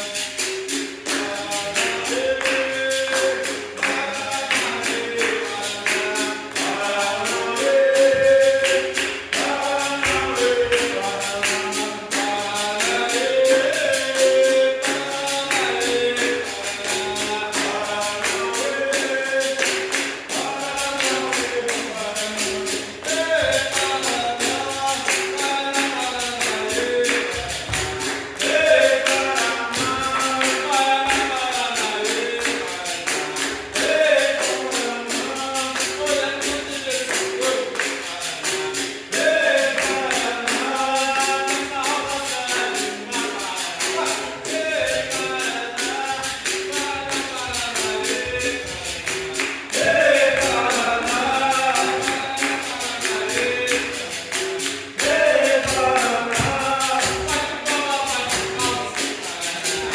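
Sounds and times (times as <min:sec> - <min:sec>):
berimbau playing: 0:00.0 - 0:59.9
jingling percussion: 0:00.0 - 0:59.9
rhythmic hand-clapping: 0:00.0 - 0:59.9
voices singing: 0:00.0 - 0:59.9.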